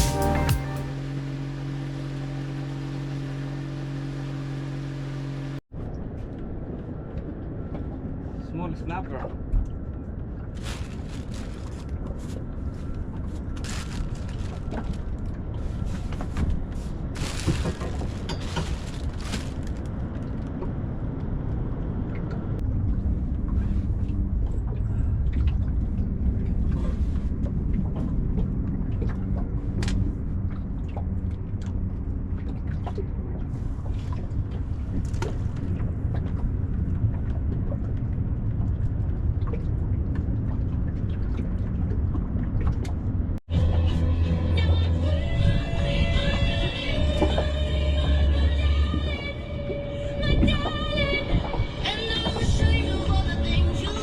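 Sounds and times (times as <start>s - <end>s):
wind rumbling on microphone: 5.7s - 54.0s.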